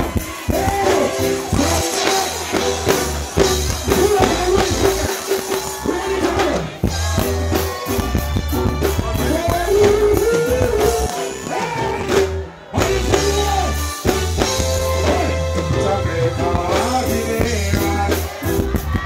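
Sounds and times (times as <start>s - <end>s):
man singing into a microphone: 0.0s - 3.0s, 3.8s - 14.0s, 14.8s - 19.0s
live reggae band: 0.0s - 19.0s.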